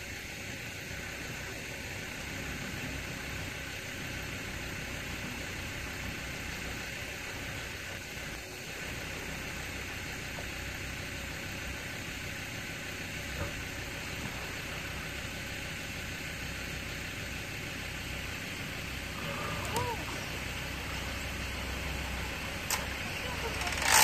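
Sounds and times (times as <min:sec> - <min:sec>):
constant hiss: 0:00.0 - 0:24.0
engine idling: 0:00.0 - 0:24.0.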